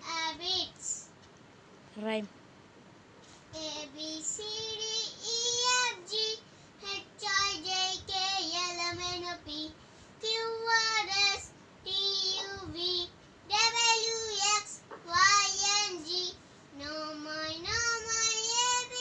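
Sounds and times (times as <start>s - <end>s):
girl singing unaccompanied: 0.0s - 1.1s, 3.5s - 19.0s.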